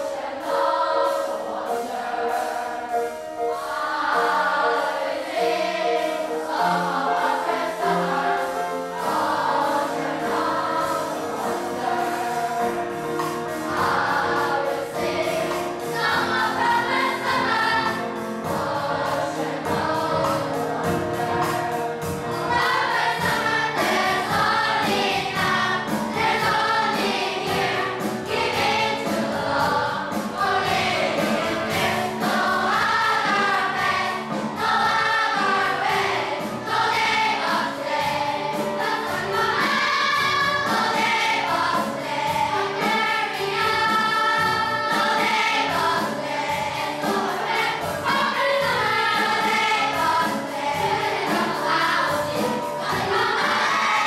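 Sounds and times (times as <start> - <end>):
choir singing: 0.0 - 54.0
instrumental accompaniment: 0.0 - 54.0.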